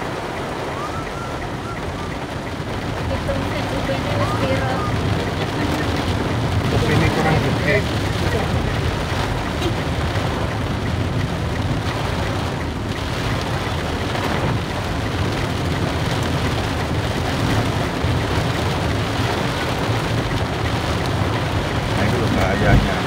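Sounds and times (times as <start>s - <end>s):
engine and tyres rumbling: 0.0s - 23.0s
heavy rain on car roof: 0.0s - 23.0s.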